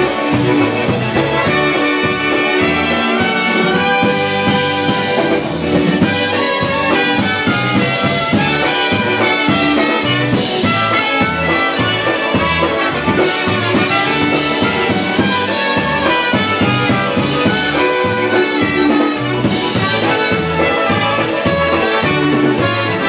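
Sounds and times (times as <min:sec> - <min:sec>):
polka band playing: 0:00.0 - 0:23.0.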